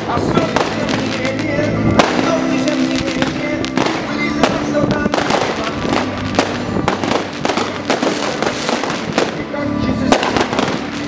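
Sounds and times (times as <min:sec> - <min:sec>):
fireworks bangs and crackles: 0:00.0 - 0:11.0
music playing: 0:00.0 - 0:11.0.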